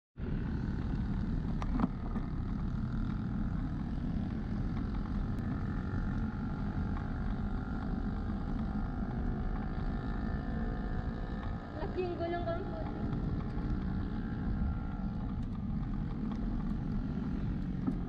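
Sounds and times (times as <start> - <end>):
bicycle tyres on road: 0.2 - 18.0
wind rumble on microphone: 0.2 - 18.0.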